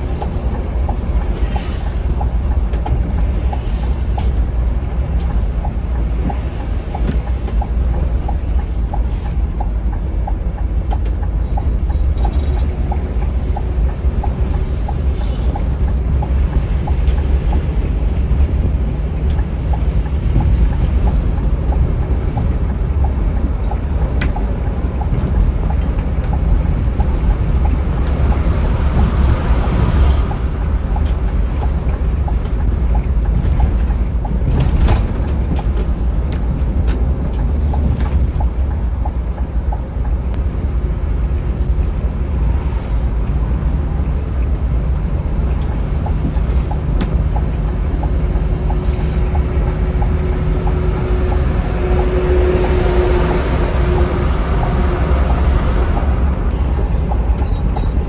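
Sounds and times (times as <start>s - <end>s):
rattles and clicks: 0.0s - 40.5s, 41.7s - 58.0s
coach engine and road rumble: 0.0s - 58.0s.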